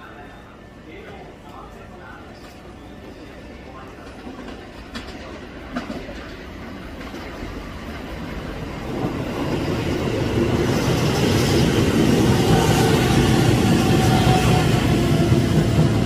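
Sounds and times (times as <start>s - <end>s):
electric train approaching: 0.0s - 16.0s.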